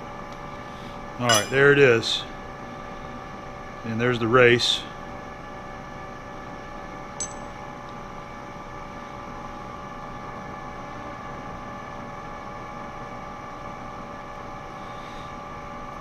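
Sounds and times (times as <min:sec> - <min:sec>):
machine hum with steady tones: 0:00.0 - 0:16.0.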